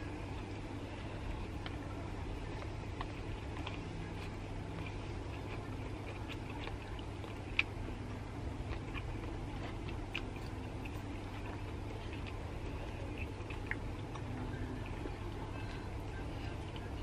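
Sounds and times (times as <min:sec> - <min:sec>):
soft chewing: 0:00.0 - 0:17.0
steady low hum: 0:00.0 - 0:17.0.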